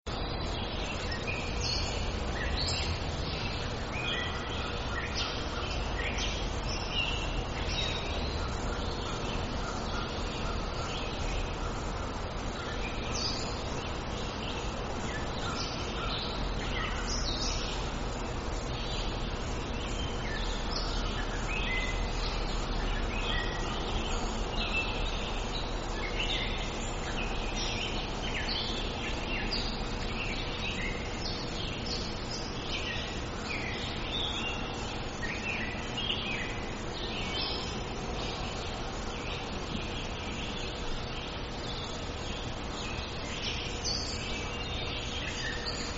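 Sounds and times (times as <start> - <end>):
background hiss and low rumble: 0.1 - 45.9
birds chirping and singing: 0.1 - 45.9.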